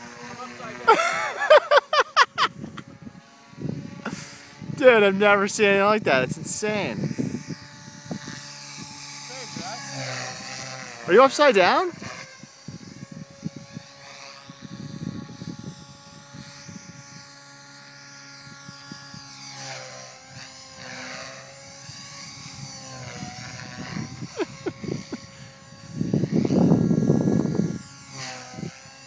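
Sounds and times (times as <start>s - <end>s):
rc helicopter rotor whine: 0.0s - 29.0s.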